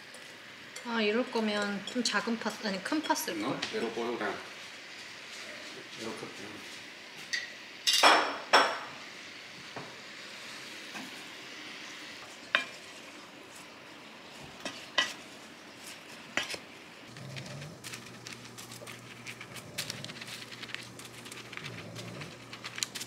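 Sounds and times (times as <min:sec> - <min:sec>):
onions sizzling in a pot: 0:00.0 - 0:21.2.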